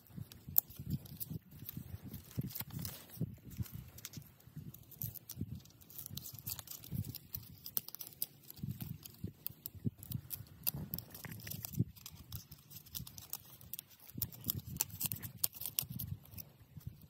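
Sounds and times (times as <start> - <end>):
bamboo strips cracking: 0.2 - 16.7.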